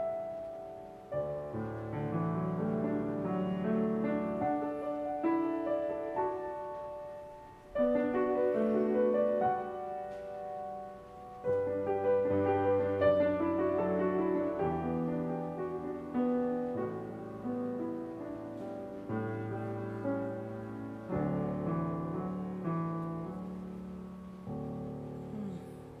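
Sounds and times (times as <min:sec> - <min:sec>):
grand piano playing chords: 0:00.0 - 0:26.0.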